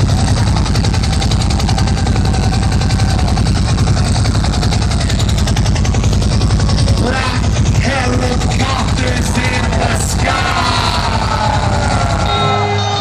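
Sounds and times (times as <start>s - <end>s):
helicopter rotor chop over speakers: 0.0s - 12.6s
heavy low rumble: 0.0s - 12.8s.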